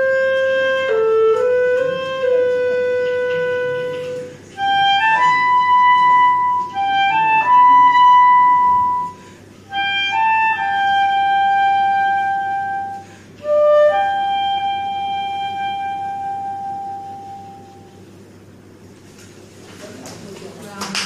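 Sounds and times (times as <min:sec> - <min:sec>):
slow solo woodwind melody: 0:00.0 - 0:18.1.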